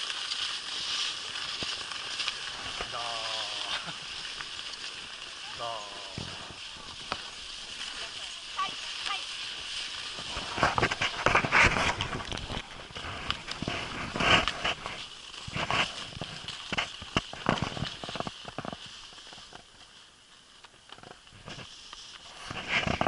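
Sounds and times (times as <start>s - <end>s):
footsteps crunching in snow: 0.0s - 23.0s.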